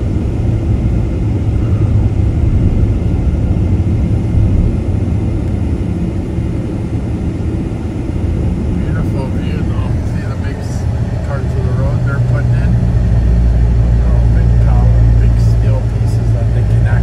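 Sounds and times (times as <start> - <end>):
road noise: 0.0 - 17.0
vehicle engine: 0.0 - 17.0.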